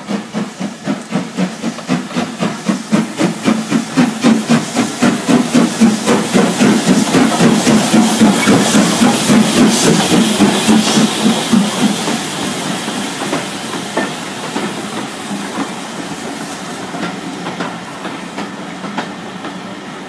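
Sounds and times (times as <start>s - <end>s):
steam hiss: 0.0s - 20.0s
steam locomotive chuffing: 0.0s - 20.0s.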